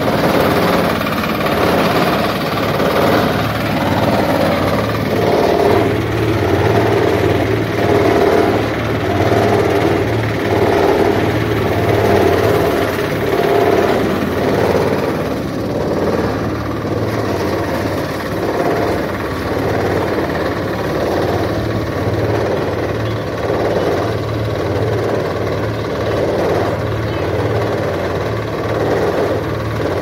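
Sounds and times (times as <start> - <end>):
grain thresher running: 0.0 - 30.0
straw and chaff rushing out: 0.0 - 30.0.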